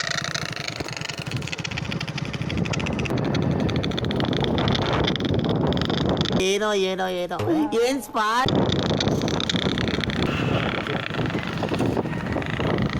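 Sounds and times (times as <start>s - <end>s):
motorcycle exhaust pulsing: 0.0s - 6.4s, 8.5s - 12.9s.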